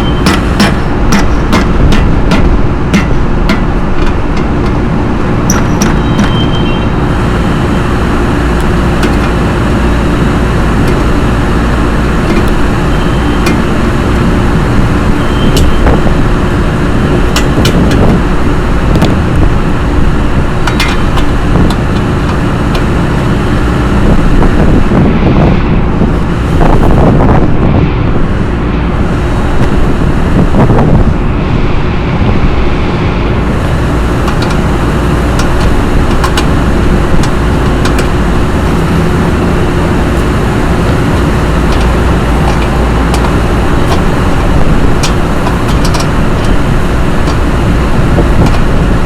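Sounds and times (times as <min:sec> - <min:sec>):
fan machinery humming: 0:00.0 - 0:49.0.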